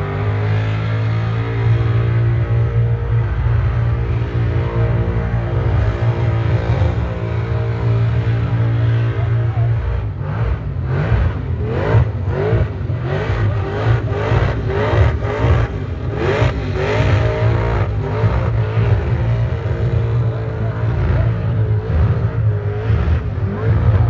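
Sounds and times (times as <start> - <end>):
engine revving hard: 4.0 - 24.0.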